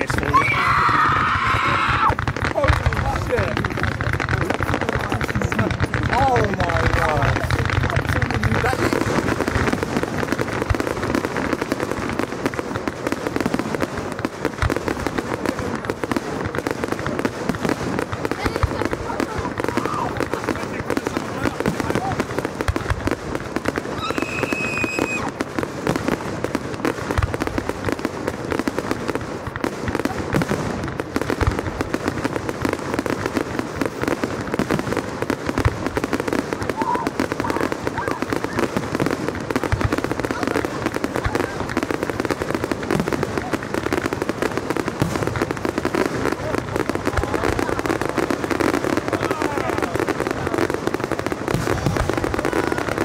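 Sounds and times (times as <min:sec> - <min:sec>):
deep firework bangs: 0:00.0 - 0:53.0
fireworks crackling: 0:00.0 - 0:53.0.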